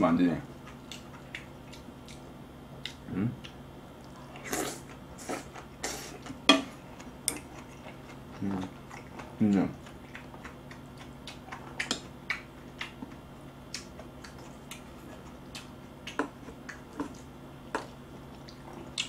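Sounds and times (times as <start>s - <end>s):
faint low hum: 0.0s - 19.0s
chewing food: 0.6s - 19.0s.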